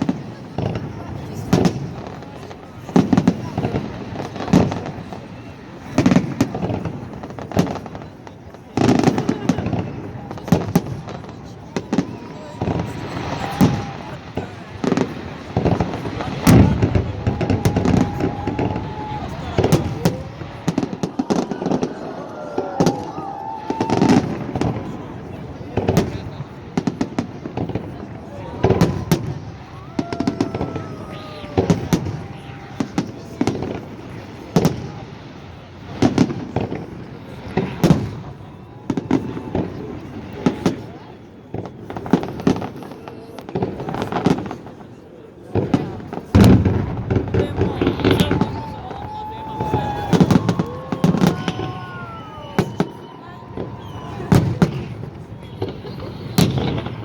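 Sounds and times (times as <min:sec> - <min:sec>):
fireworks bangs: 0:00.0 - 0:57.0
high whistling fireworks: 0:00.0 - 0:57.0.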